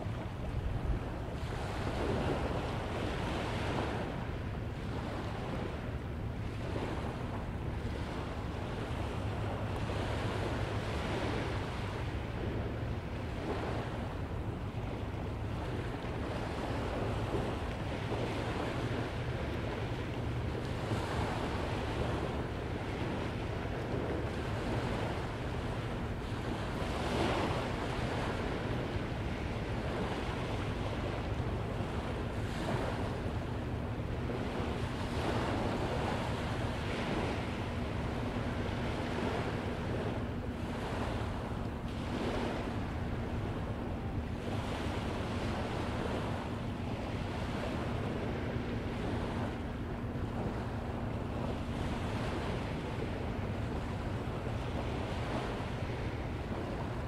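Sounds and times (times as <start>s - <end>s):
waves breaking on beach: 0.0s - 57.0s
wind rumble on microphone: 0.0s - 57.0s.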